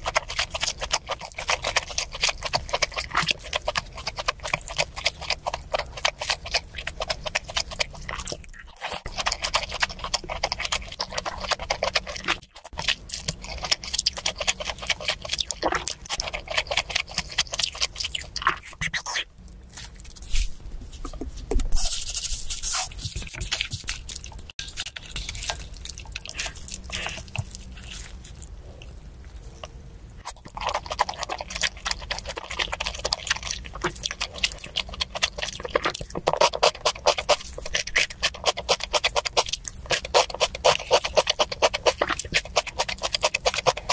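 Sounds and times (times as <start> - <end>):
eating scrapes and slurps: 0.0 - 43.9.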